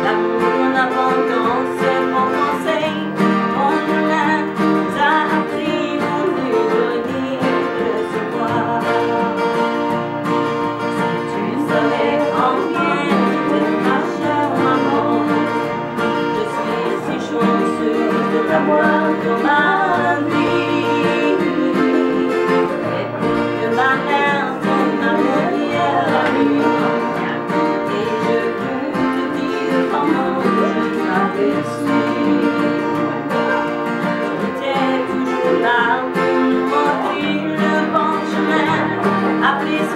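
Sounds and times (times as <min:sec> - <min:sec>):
acoustic guitars strumming: 0:00.0 - 0:39.9
woman singing: 0:00.0 - 0:39.9.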